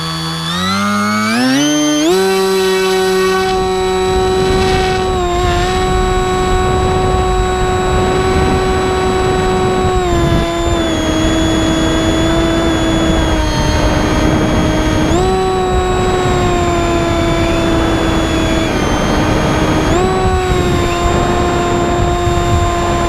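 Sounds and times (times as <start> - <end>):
electric motor and propeller whine: 0.0 - 23.0.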